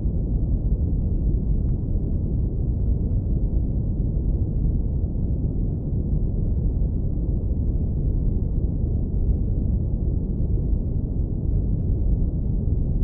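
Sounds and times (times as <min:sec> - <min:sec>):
deep brown noise rumble: 0:00.0 - 0:13.0.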